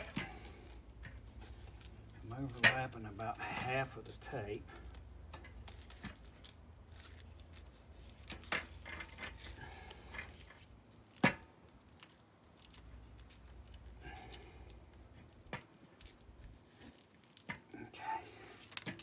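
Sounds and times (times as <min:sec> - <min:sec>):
hands wrapping tape: 0:00.0 - 0:03.8, 0:04.6 - 0:19.0.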